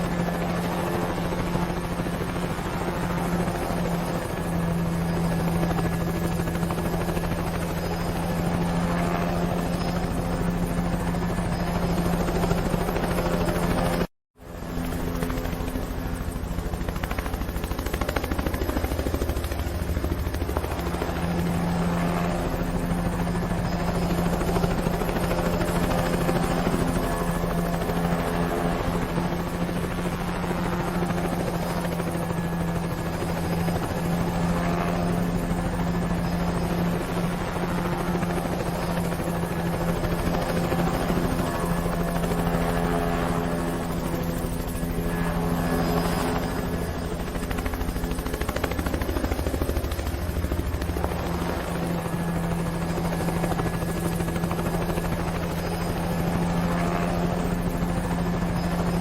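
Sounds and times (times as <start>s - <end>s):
helicopter drone: 0.0s - 59.0s.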